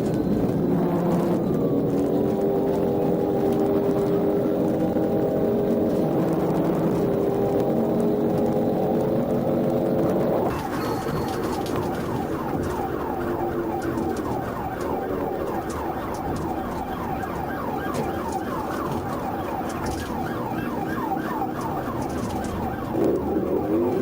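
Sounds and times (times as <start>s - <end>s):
police siren yelping: 0.0s - 24.0s
vehicle running: 0.0s - 24.0s.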